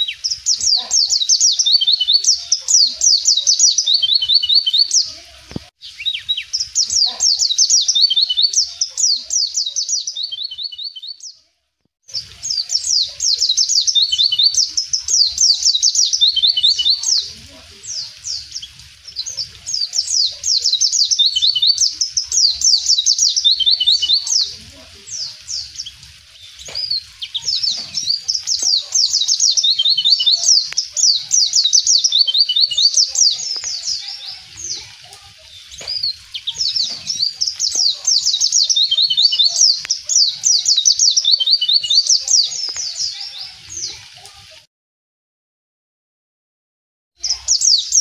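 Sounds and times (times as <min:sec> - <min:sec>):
bird twittering song: 0:00.0 - 0:11.4, 0:12.1 - 0:44.0, 0:47.2 - 0:48.0.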